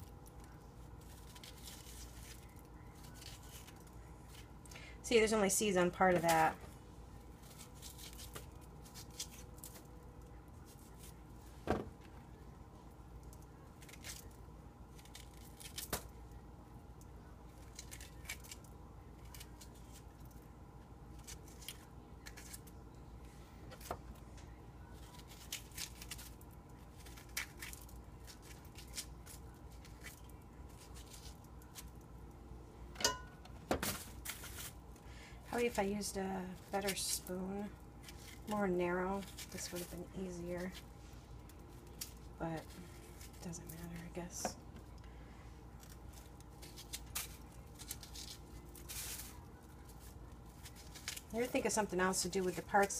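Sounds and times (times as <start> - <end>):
steady faint hum: 0.0 - 52.9.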